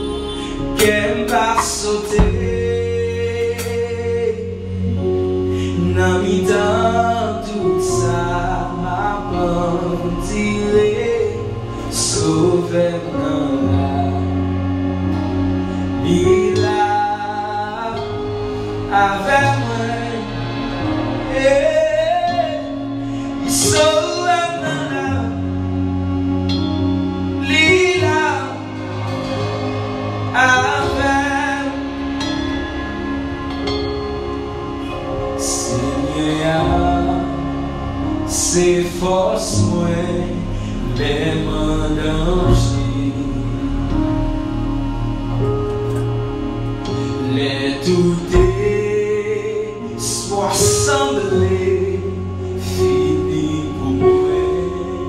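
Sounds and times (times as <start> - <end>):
held chords: 0.0 - 55.0
person singing: 0.0 - 55.0.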